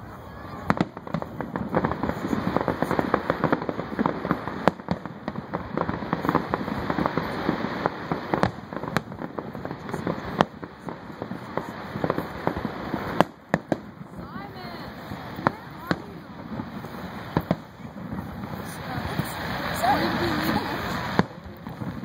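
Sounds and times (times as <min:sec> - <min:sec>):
fireworks bangs: 0:00.0 - 0:22.0
fireworks crackling: 0:00.0 - 0:22.0.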